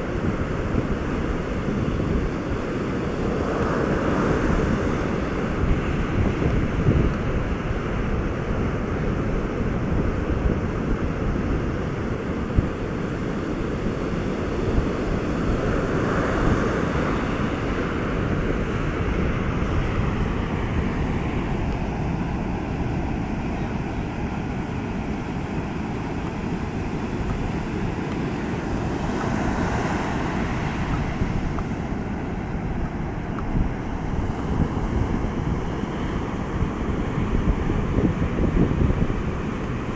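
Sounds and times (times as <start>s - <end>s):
surf breaking on sandy beach: 0.0s - 39.9s
wind buffeting microphone: 0.0s - 39.9s.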